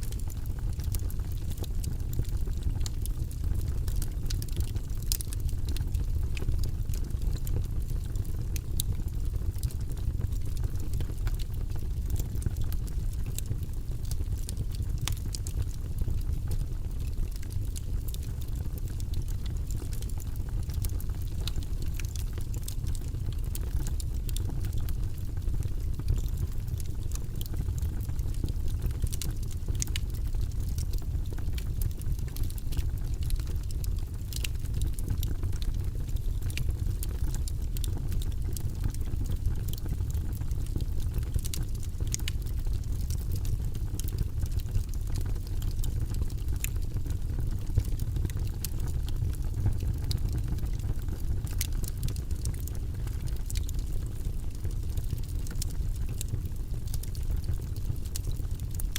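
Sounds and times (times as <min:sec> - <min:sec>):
burning wood crackling and popping: 0:00.0 - 0:58.9
low rumble of flame: 0:00.0 - 0:58.9.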